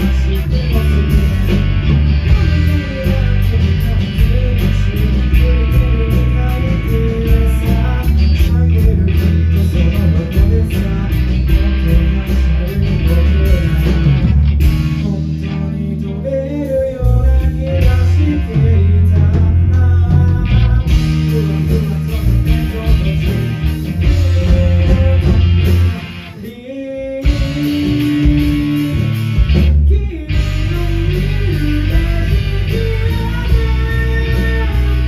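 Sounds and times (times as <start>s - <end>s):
bass guitar: 0.0s - 35.0s
drums: 0.0s - 35.0s
electric guitar: 0.0s - 35.0s
person singing: 0.0s - 35.0s.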